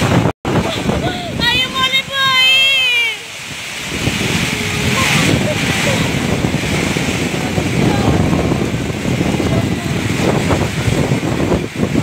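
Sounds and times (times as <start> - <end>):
heavy rain: 0.0 - 12.0
strong gusting wind: 0.0 - 12.0
wind buffeting microphone: 0.0 - 12.0.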